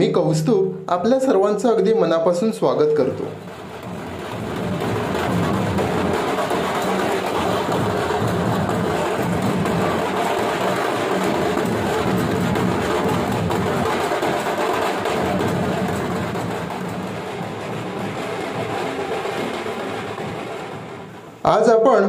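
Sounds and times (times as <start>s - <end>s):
dhol drums beaten with sticks: 0.0s - 21.6s.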